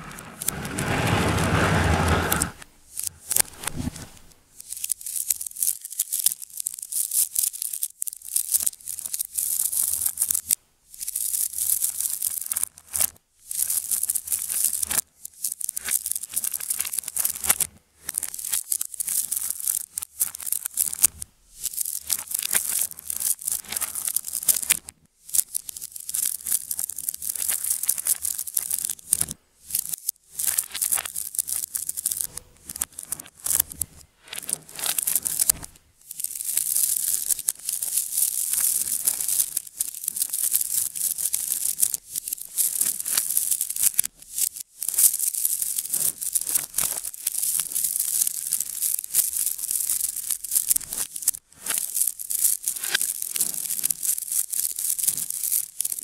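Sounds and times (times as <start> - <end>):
magnet balls clicking and rattling: 2.9 - 3.7, 4.6 - 56.0.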